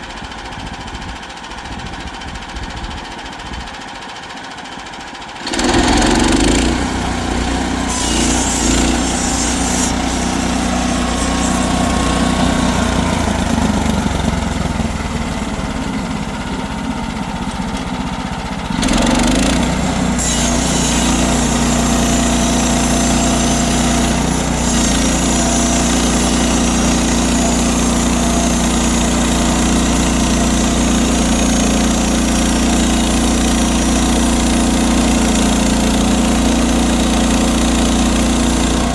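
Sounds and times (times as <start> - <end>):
small engine running under load: 0.0 - 38.9
saw cutting through log: 5.3 - 38.9.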